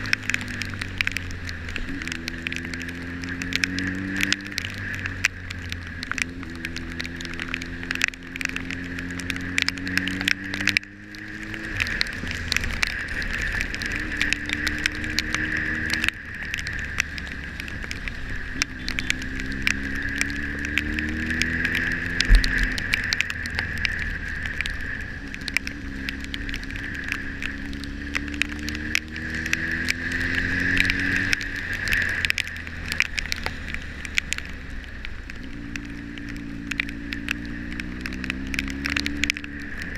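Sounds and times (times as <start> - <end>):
motorcycle engine accelerating: 0.0 - 39.9
rain ticking on camera: 0.0 - 39.9
wind and road noise: 0.0 - 39.9.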